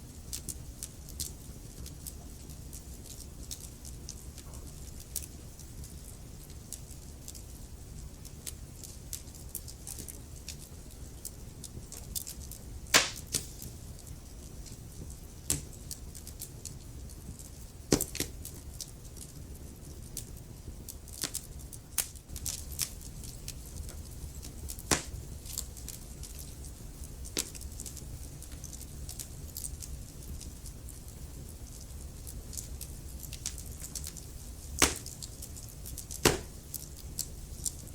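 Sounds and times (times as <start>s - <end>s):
low steady fire rumble: 0.0s - 37.9s
wood fire crackling: 0.0s - 37.9s.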